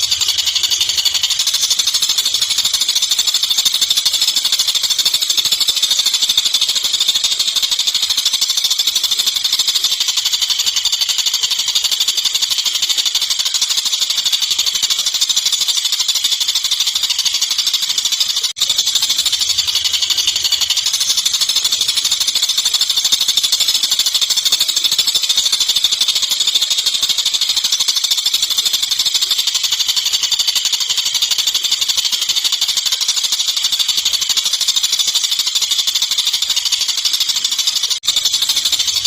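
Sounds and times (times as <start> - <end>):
kingfisher rattling trill: 0.0 - 39.0.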